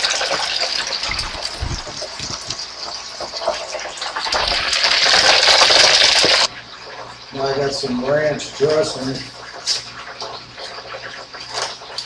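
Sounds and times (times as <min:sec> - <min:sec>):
oil sizzling in deep fryer: 0:00.0 - 0:12.0.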